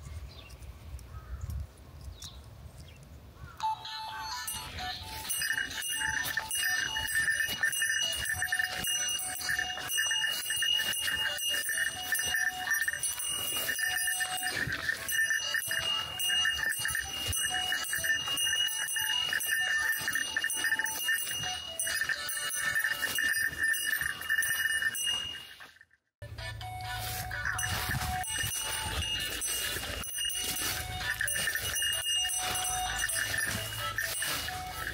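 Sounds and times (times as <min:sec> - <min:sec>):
bell-like electronic jingle: 0:03.6 - 0:34.9.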